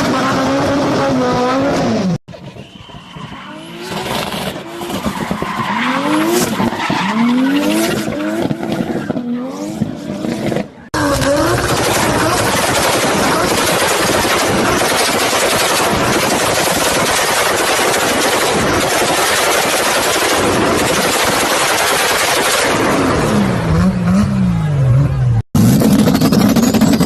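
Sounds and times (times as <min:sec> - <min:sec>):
car engines revving hard: 0:00.0 - 0:02.2, 0:03.4 - 0:27.0.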